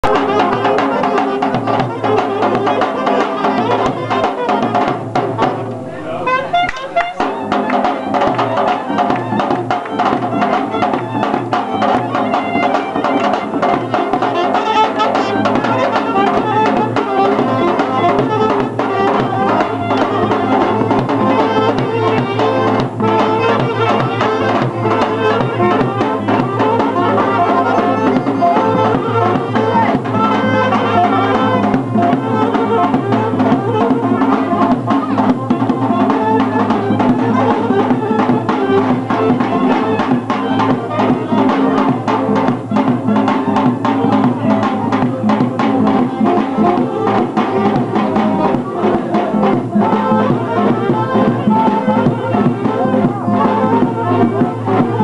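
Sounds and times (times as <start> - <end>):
accordion: 0.0 - 55.0
folk band playing dance tune: 0.0 - 55.0
large drum beating: 0.0 - 55.0.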